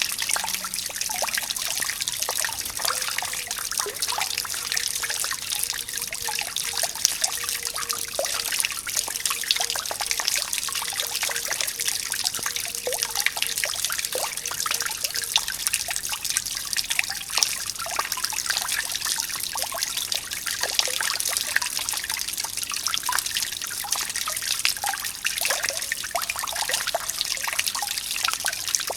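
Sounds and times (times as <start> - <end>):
water fountain splashing: 0.0 - 28.9.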